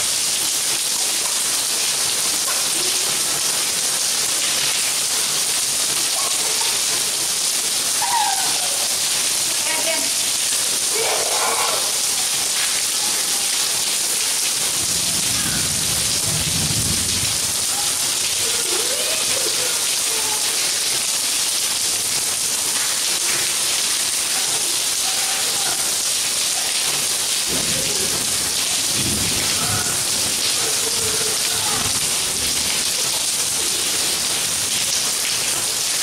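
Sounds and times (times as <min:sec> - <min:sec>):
rain on pavement: 0:00.0 - 0:36.0.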